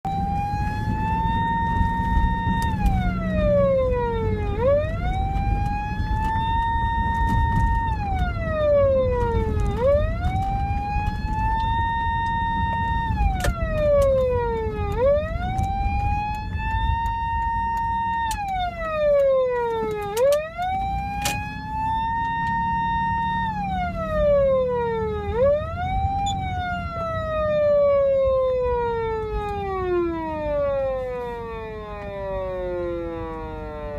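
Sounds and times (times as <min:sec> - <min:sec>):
police siren wail: 0:00.0 - 0:33.9.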